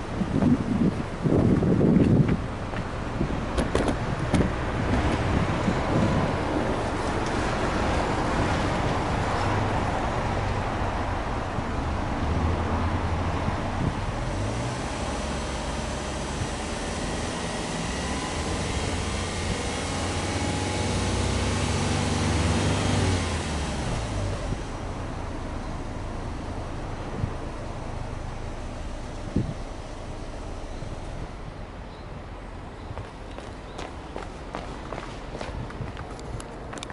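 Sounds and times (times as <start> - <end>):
car engine running at low speed: 0.0 - 36.9.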